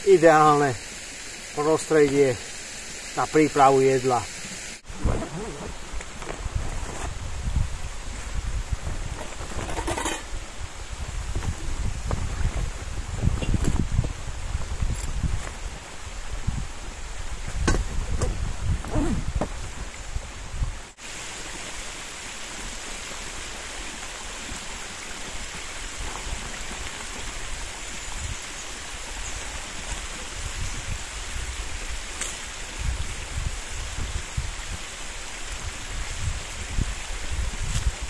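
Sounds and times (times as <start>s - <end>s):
brook flowing over stones: 0.0s - 20.3s, 20.9s - 38.0s.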